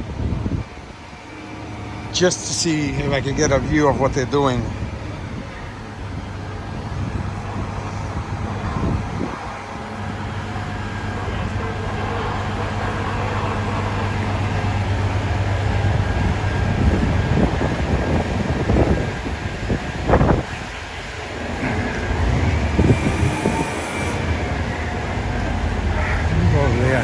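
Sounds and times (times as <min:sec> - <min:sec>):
large engine low hum: 0:00.0 - 0:27.0
street traffic: 0:00.0 - 0:27.0.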